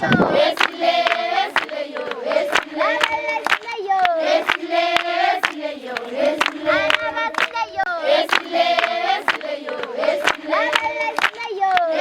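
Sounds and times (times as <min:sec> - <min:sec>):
girls singing in chorus: 0:00.0 - 0:12.0
sharp hand claps: 0:00.5 - 0:07.6, 0:08.2 - 0:12.0.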